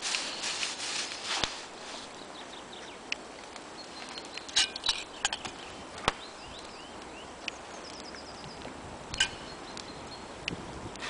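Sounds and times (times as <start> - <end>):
songbirds singing: 1.7 - 11.0.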